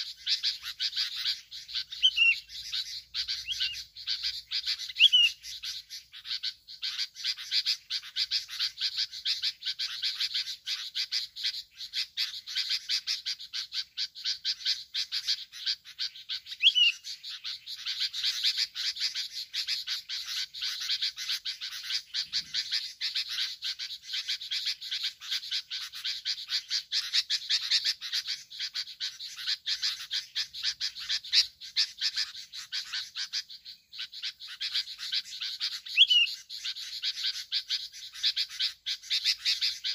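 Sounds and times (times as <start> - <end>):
gliding bird call: 0.0 - 11.2, 14.4 - 39.9
chorus of rapid clicking calls: 0.0 - 39.9.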